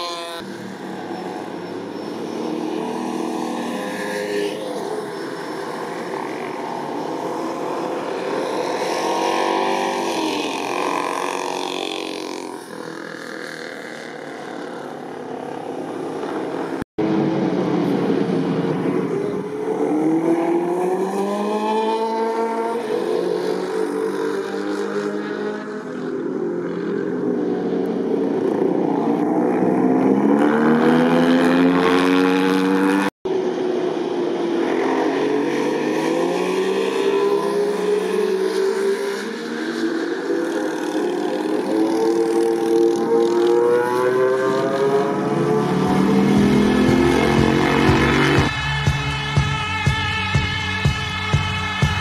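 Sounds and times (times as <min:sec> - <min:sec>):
motorcycle engines passing: 0:00.0 - 0:52.0.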